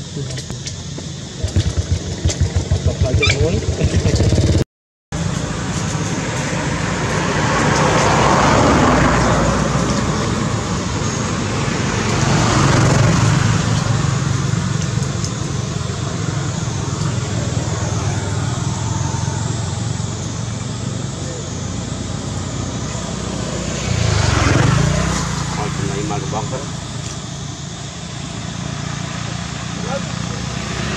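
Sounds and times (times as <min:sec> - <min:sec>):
passing road traffic: 0:00.0 - 0:04.6, 0:05.2 - 0:30.9.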